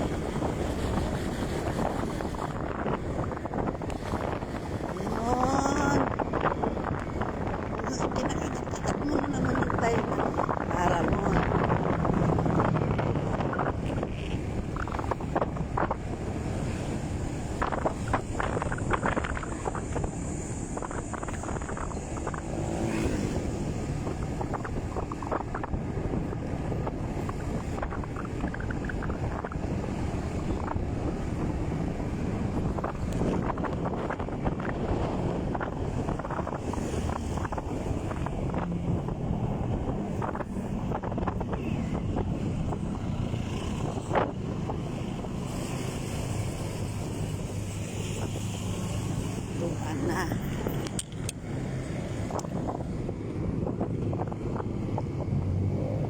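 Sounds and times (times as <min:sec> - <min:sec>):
motorcycle running: 0:00.0 - 0:56.0
wind buffeting microphone: 0:00.0 - 0:56.0.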